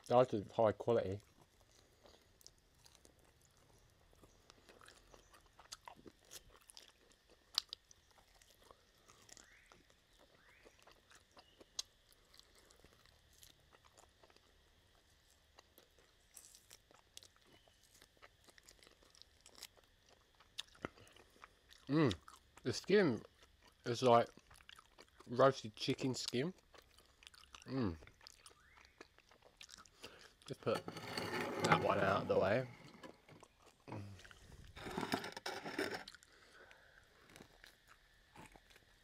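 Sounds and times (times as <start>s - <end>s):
chewing on a bone: 1.0s - 30.8s, 32.7s - 39.0s.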